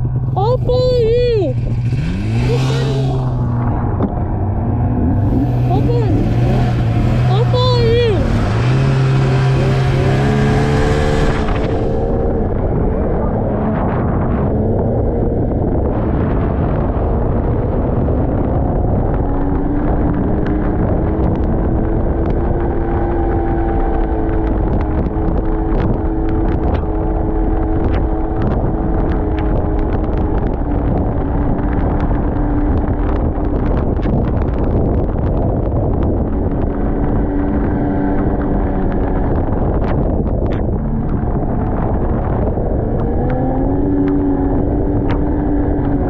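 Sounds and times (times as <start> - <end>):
snowmobile engine running: 0.0 - 46.0
wind buffeting microphone: 0.0 - 46.0.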